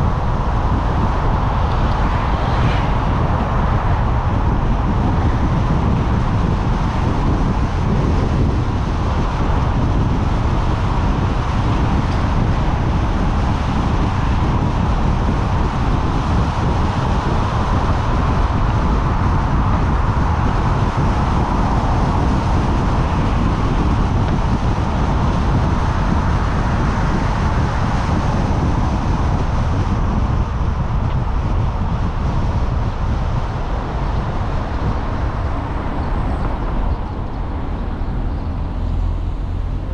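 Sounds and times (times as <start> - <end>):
tyres rumbling on road: 0.0 - 39.9
wind noise: 0.0 - 39.9.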